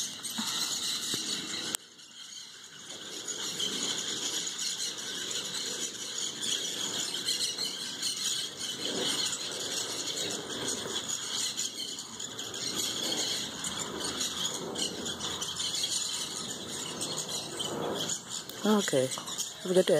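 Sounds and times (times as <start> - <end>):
parrots squawking: 3.3 - 19.9.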